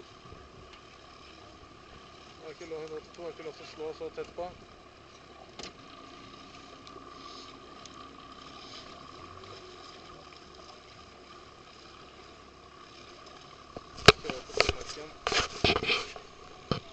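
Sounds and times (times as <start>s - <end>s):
wind and water hiss: 0.0s - 16.9s.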